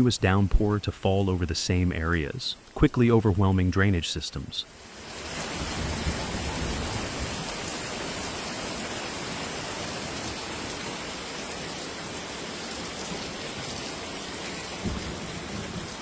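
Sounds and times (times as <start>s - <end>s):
rain downpour: 0.0s - 16.0s.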